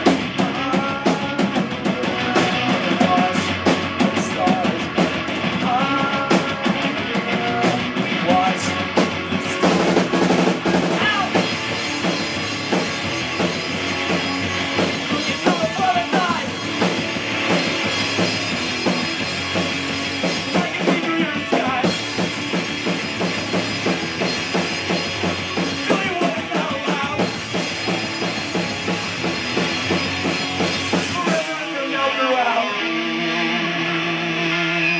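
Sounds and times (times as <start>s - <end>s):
drum kit: 0.0s - 34.9s
guitar: 0.0s - 34.9s
rock music: 0.0s - 34.9s.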